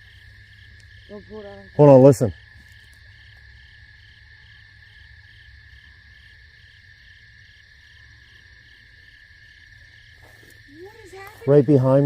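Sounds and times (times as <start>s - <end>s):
higher pulsing insect call: 0.0s - 12.0s
insects trilling: 0.0s - 12.0s.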